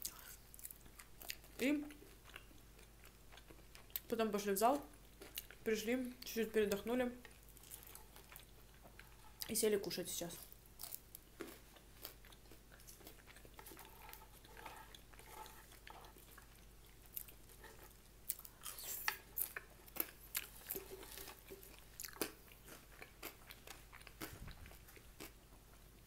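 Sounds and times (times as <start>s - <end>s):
person chewing crunchy food: 0.0s - 4.1s, 4.9s - 5.6s, 7.2s - 9.5s, 10.3s - 26.0s.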